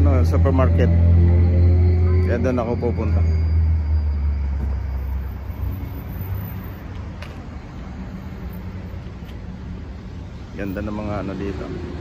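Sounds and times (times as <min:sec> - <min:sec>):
road noise: 0:00.0 - 0:12.0
vehicle rumble: 0:00.0 - 0:12.0.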